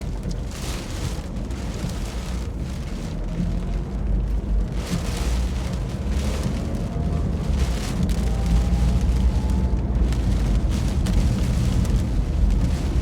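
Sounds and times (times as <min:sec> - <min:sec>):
wind buffeting microphone: 0:00.0 - 0:13.0
rain hiss: 0:00.1 - 0:13.0.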